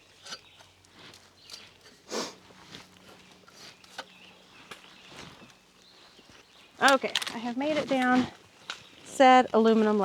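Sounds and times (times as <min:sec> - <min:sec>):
steps on metal ladder: 0:00.0 - 0:08.8.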